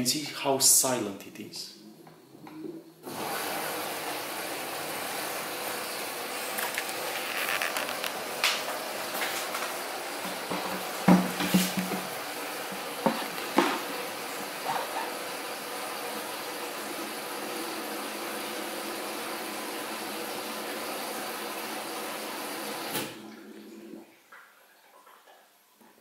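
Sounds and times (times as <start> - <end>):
washing machine filling with water: 2.2 - 25.5.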